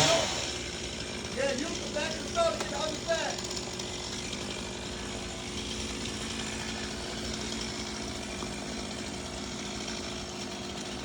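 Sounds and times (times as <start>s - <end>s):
two-stroke chainsaw engine running: 0.0s - 11.0s.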